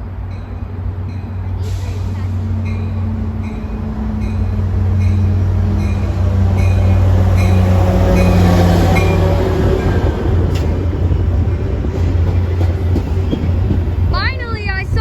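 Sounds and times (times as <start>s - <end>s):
diesel train engine droning: 0.0s - 15.0s.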